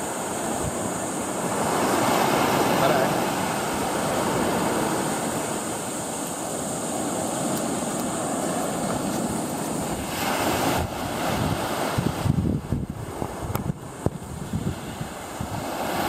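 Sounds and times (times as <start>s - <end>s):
waves breaking on beach: 0.0s - 16.0s
wind on microphone: 0.0s - 16.0s.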